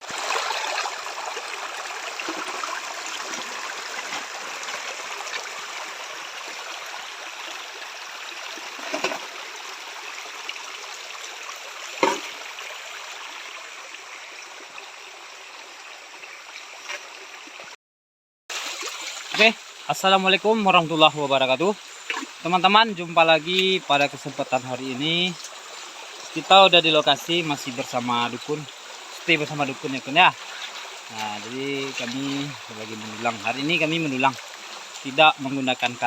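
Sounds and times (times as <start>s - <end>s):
river water flowing: 0.0s - 17.7s, 18.5s - 36.0s.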